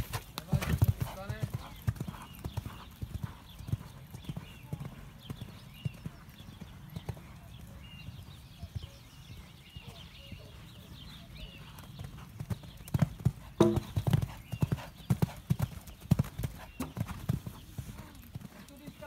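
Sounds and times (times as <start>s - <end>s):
horse hoofbeats on sand: 0.0s - 19.0s.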